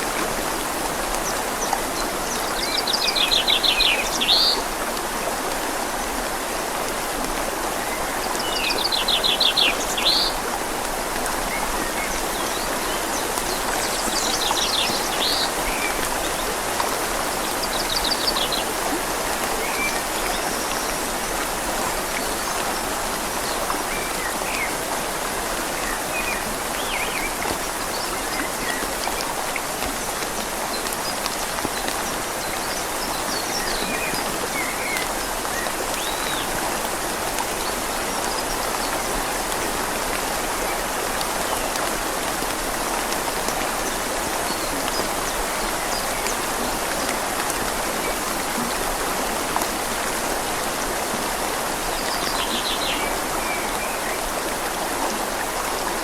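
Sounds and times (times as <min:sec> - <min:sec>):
rain falling on leaves: 0:00.0 - 0:56.0
river flowing: 0:00.0 - 0:56.0.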